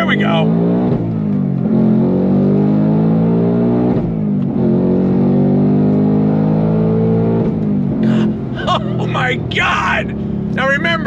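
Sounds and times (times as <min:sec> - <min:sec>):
car engine revving at full throttle: 0:00.0 - 0:11.0.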